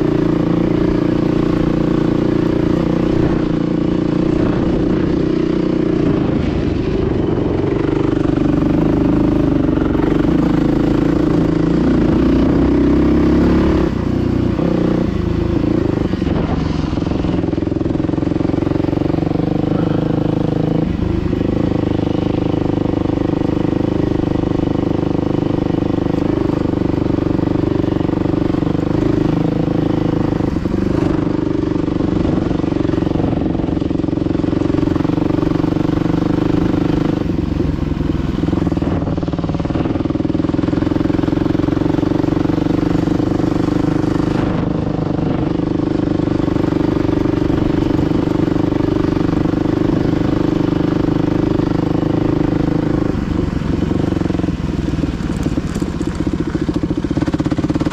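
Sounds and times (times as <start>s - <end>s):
dirt bike engine running: 0.0s - 57.9s.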